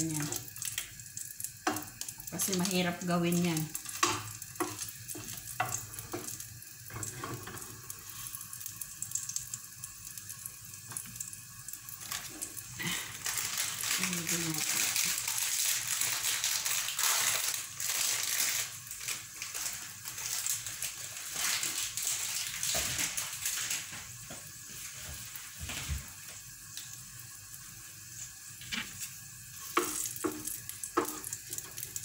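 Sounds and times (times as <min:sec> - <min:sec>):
butter sizzling in a frying pan: 0:00.0 - 0:32.0.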